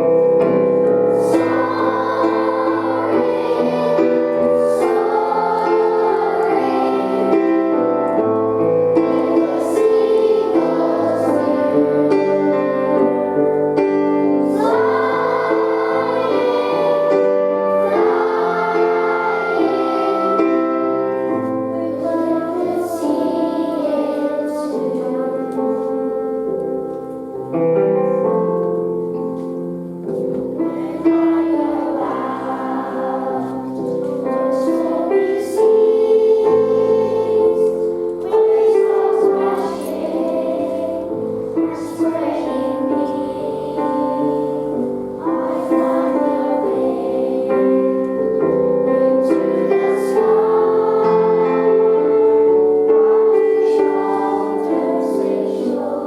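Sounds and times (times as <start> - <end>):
children singing together: 0.0 - 27.4, 30.0 - 56.0
instrumental backing music: 0.0 - 56.0.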